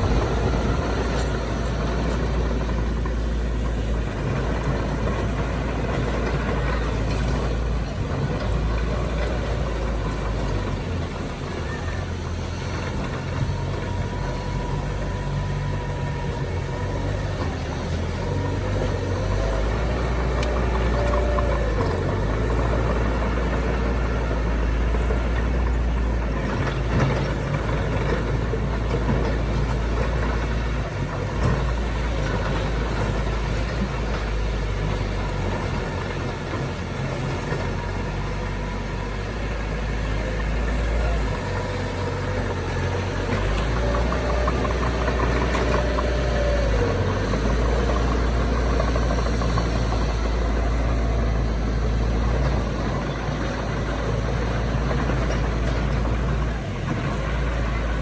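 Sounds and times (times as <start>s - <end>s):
heavy diesel engines rumbling: 0.0s - 58.0s.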